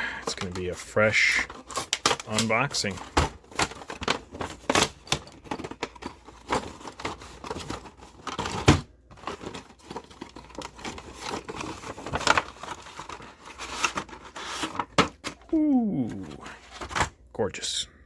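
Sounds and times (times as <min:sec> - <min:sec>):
packaging crinkling and tearing: 0:00.1 - 0:17.1.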